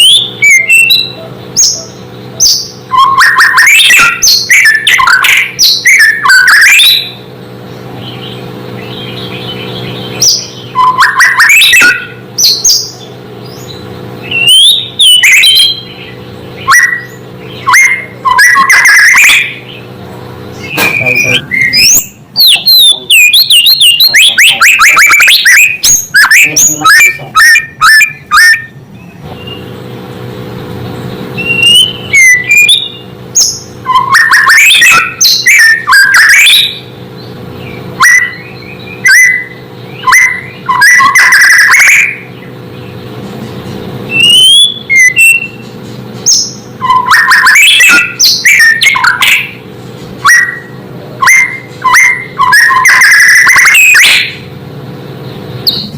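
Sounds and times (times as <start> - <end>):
bird singing whistles: 0.0 - 7.2, 8.1 - 19.9, 20.5 - 29.7, 31.4 - 36.9, 37.6 - 42.4, 44.1 - 49.6, 50.2 - 54.4, 55.7 - 55.9
steady low hum: 0.0 - 55.9.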